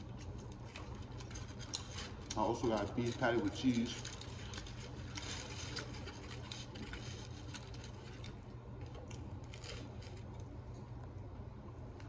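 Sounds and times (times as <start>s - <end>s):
paper wrapping crackling: 0.0s - 10.8s
steady low hum: 0.0s - 12.0s.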